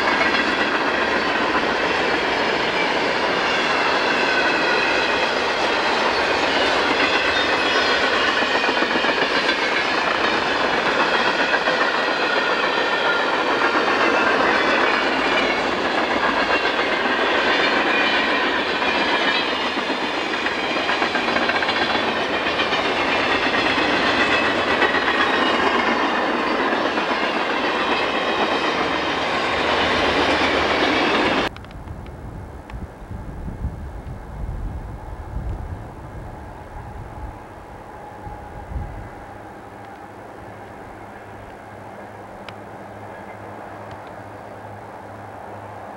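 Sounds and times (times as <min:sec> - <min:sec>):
freight train rushing past: 0:00.0 - 0:45.9.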